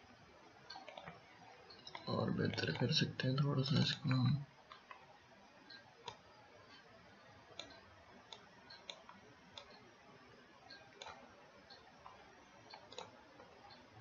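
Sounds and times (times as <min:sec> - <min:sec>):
low hiss: 0:00.0 - 0:14.0
computer mouse clicks: 0:00.7 - 0:05.1, 0:05.7 - 0:06.9, 0:07.5 - 0:09.9, 0:10.6 - 0:14.0.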